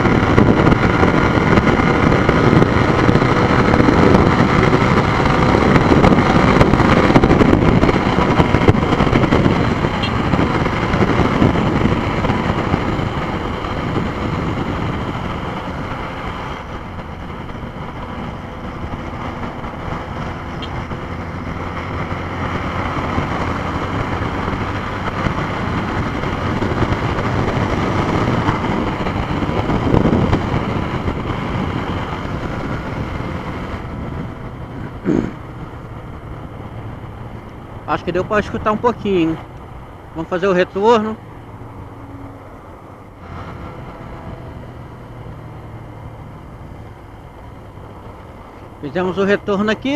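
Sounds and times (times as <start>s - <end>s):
motorcycle engine at speed: 0.0s - 49.9s
wind noise on microphone: 0.0s - 49.9s.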